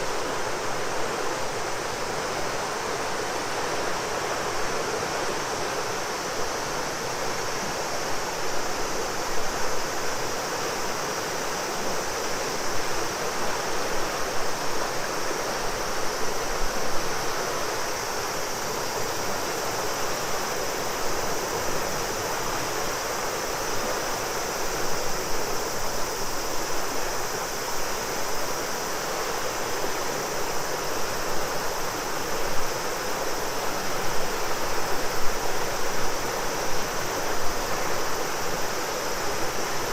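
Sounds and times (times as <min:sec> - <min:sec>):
cicadas droning: 0:00.0 - 0:39.9
river flowing: 0:00.0 - 0:39.9.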